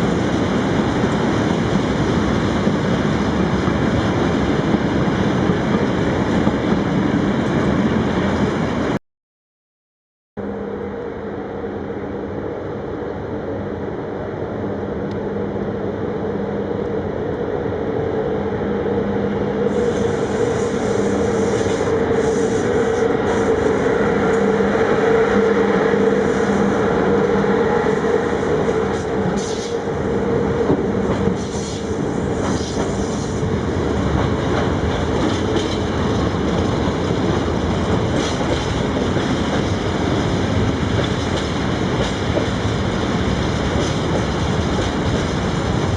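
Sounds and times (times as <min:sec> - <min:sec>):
freight train rumbling past: 0:00.0 - 0:09.0, 0:10.4 - 0:45.9.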